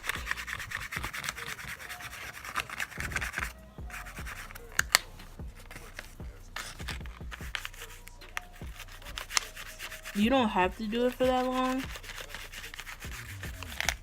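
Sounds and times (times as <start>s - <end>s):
brush scratching through eyelashes: 0.0s - 14.0s.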